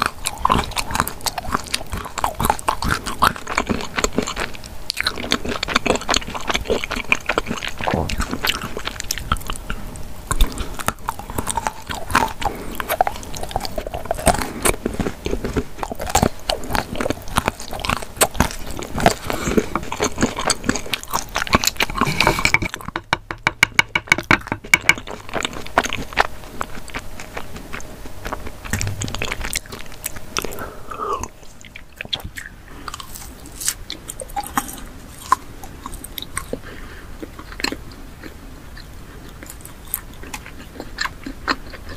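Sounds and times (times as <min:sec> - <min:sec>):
biting and chewing chocolate: 0:00.0 - 0:41.9.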